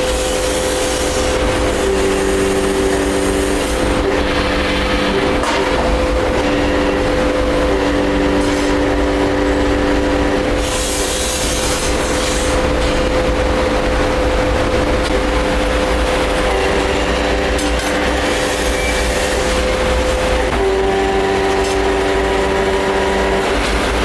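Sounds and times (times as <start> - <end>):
workshop machinery humming: 0.0 - 24.0.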